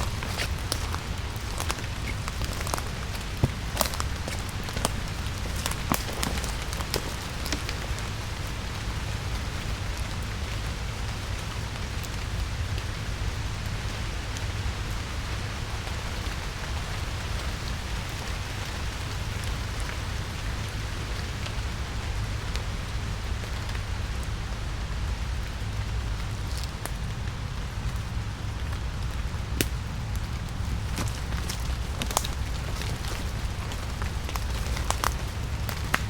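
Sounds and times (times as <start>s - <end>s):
rain pattering: 0.0s - 36.0s
raindrops striking close: 0.0s - 36.0s.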